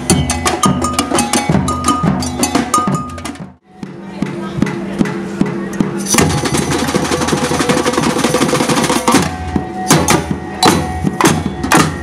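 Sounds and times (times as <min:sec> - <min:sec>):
samba percussion band: 0:00.0 - 0:12.0.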